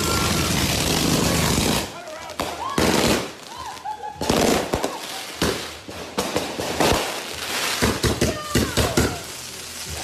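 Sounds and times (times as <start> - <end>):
fireworks banging and crackling: 0.0 - 10.0.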